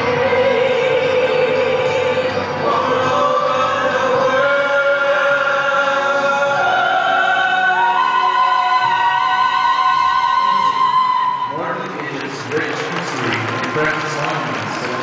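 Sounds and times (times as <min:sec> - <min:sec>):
live singing with accompaniment: 0:00.0 - 0:13.3.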